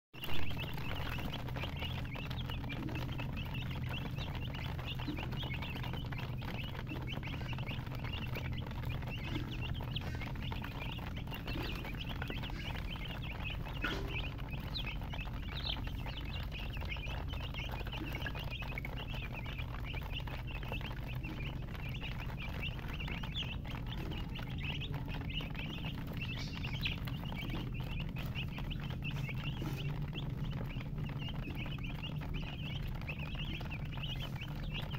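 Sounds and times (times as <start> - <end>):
baby chicks peeping: 0.1 - 34.9
steady low hum: 0.2 - 34.9.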